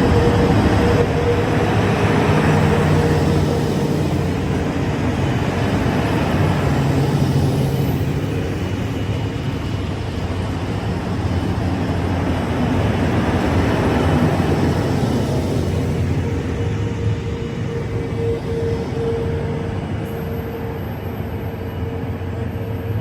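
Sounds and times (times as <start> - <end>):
diesel train engine drone: 0.0 - 23.0.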